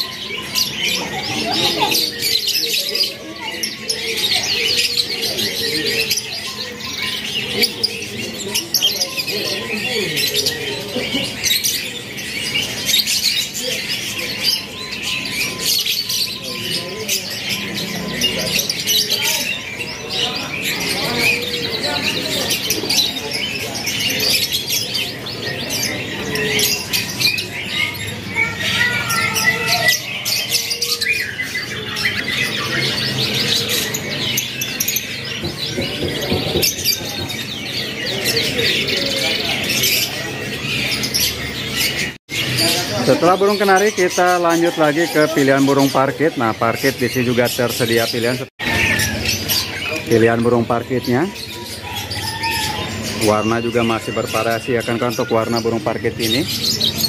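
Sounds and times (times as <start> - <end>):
caged birds chirping and trilling: 0.0 - 57.0
canaries singing: 0.0 - 57.0.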